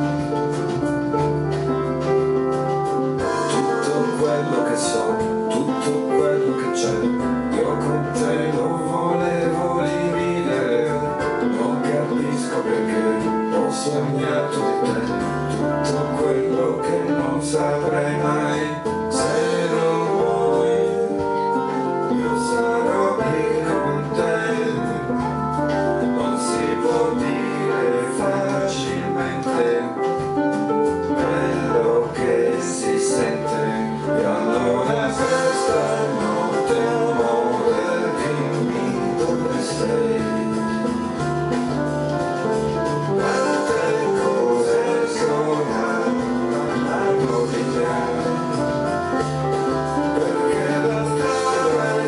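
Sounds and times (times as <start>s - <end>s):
band with piano and keyboards: 0.0s - 52.0s.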